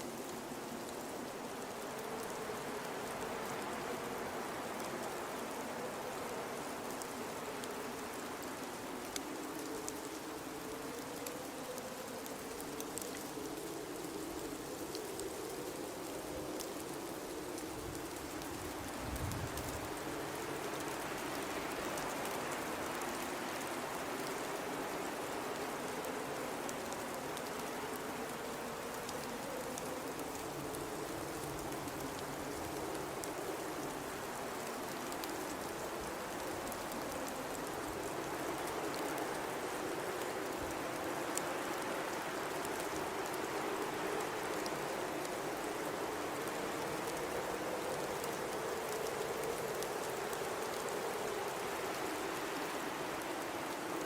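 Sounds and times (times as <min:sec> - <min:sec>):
blizzard wind howling: 0:00.0 - 0:54.0.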